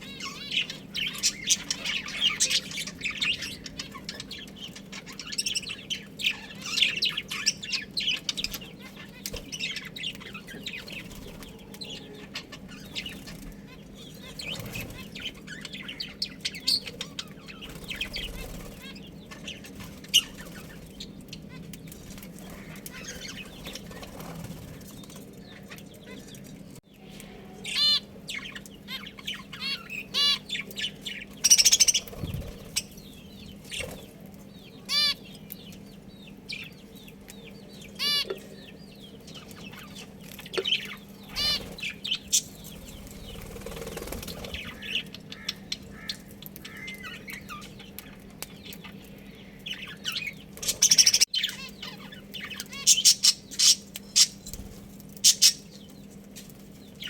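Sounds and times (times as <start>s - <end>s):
budgerigars chirping: 0.0s - 21.6s, 22.4s - 26.4s, 27.6s - 56.0s.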